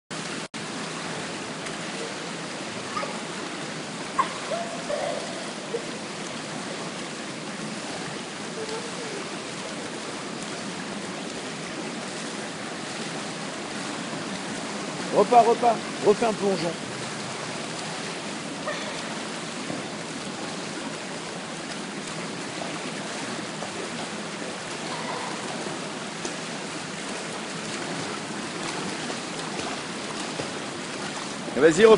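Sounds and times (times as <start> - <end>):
water splashing in pool: 0.1 - 31.9.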